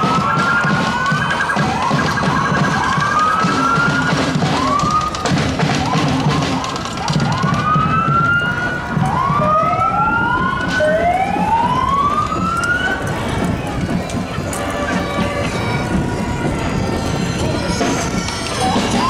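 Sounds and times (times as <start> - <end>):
emergency vehicle sirens whooping: 0.0 - 19.0.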